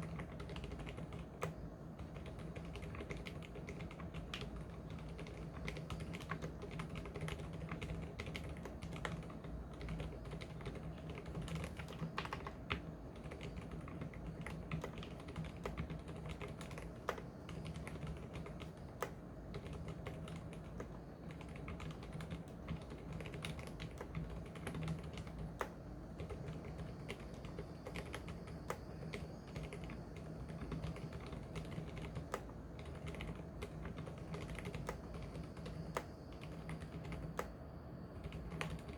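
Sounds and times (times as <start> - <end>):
mechanical keyboard typing: 0.0 - 37.6, 38.2 - 38.9.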